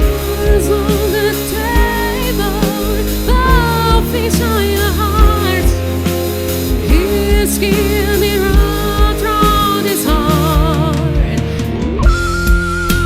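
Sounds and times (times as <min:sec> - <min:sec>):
live band playing slow pop ballad: 0:00.0 - 0:13.0.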